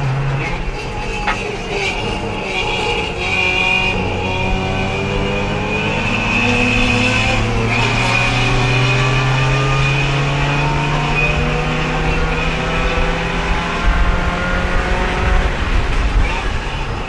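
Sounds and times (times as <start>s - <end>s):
race car engine from inside: 0.0s - 17.0s.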